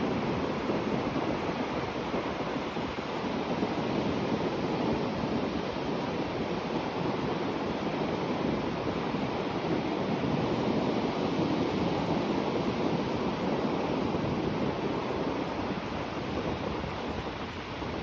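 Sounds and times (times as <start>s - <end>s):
sea waves breaking on shore: 0.0s - 18.0s
wind on microphone: 0.0s - 18.0s.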